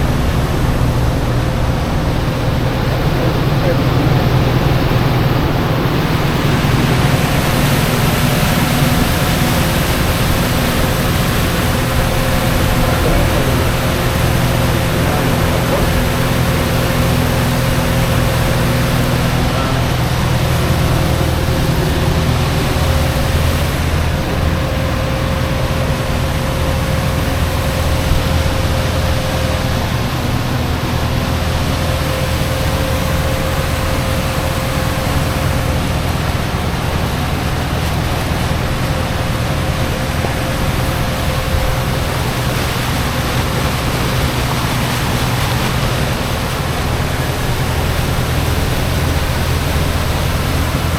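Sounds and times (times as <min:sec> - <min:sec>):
outboard motor humming: 0:00.0 - 0:50.9
rushing wind and water: 0:00.0 - 0:50.9.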